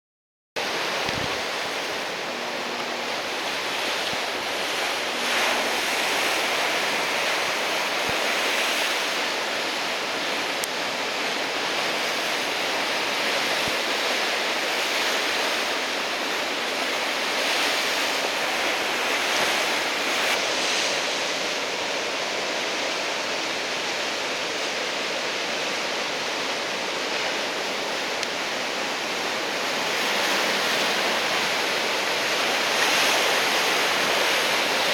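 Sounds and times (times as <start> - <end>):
heavy surf breaking on shore: 0.6 - 34.9.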